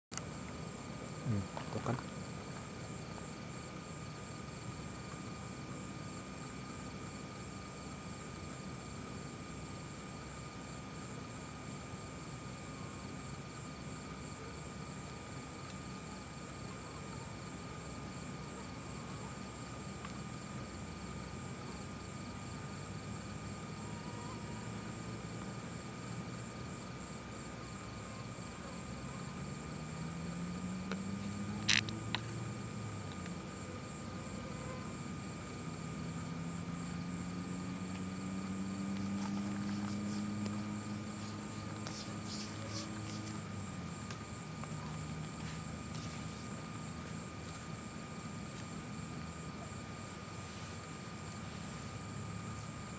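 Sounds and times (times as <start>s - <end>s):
insects trilling: 0.2s - 52.9s.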